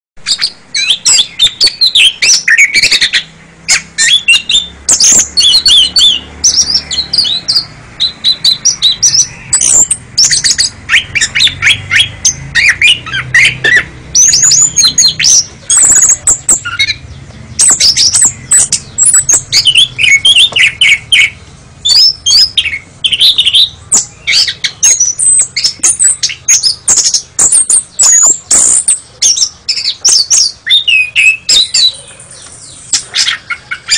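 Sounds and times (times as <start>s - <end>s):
magpie-robin singing: 0.2s - 33.9s.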